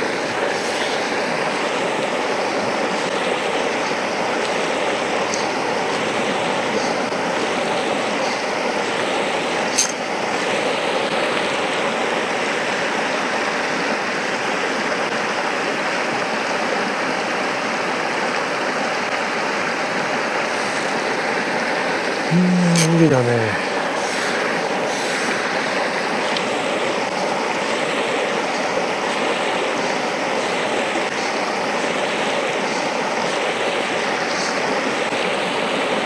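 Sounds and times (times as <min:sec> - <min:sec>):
stream rushing over stones: 0:00.0 - 0:36.0.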